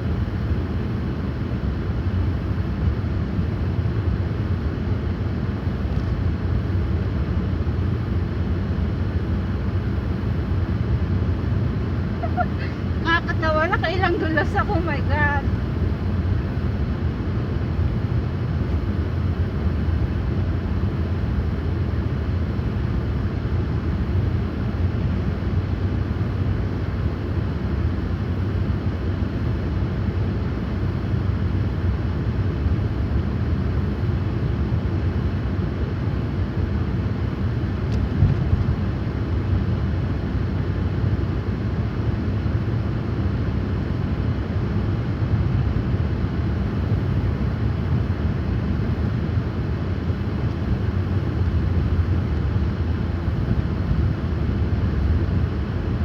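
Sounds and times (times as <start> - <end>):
car driving on snow interior rumble: 0.0 - 56.0.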